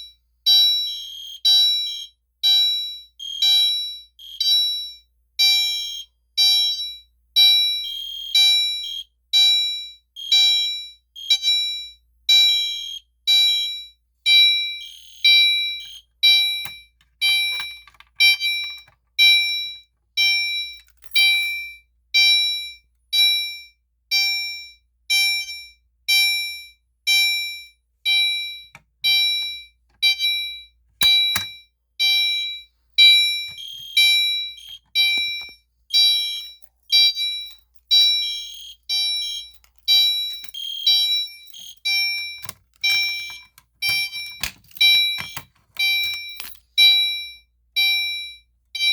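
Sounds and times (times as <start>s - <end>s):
fire alarm horn pulsed tone: 0.0s - 20.8s, 21.5s - 48.9s.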